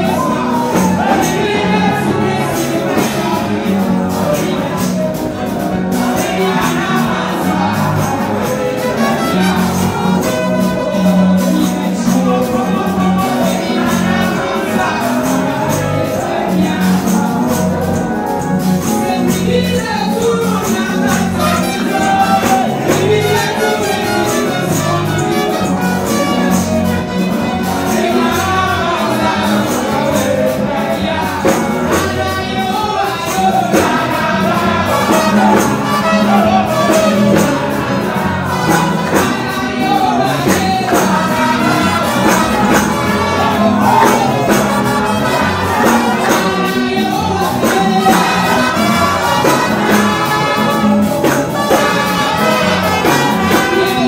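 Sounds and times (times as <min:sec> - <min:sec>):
church band with bass guitar: 0:00.0 - 0:54.0
voices singing gospel: 0:00.0 - 0:54.0.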